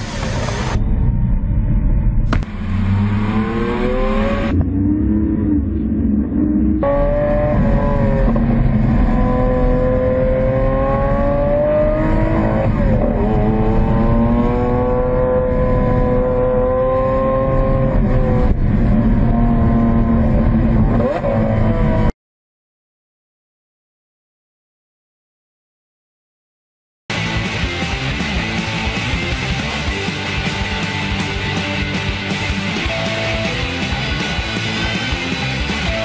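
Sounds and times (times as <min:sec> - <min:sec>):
car engine revving: 0:00.0 - 0:22.1, 0:27.1 - 0:36.0.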